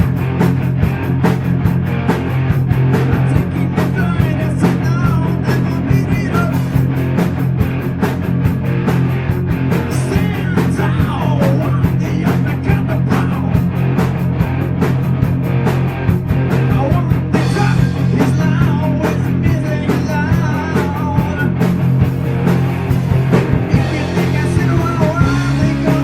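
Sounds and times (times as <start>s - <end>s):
fast drums: 0.0s - 26.0s
heavy metal band playing: 0.0s - 26.0s.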